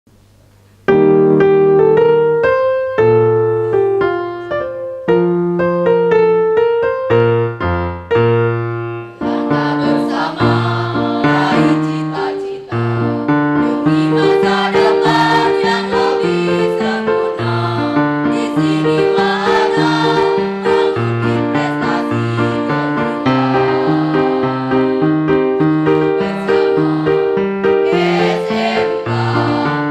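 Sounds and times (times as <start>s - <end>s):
electric piano march: 0.6s - 29.9s.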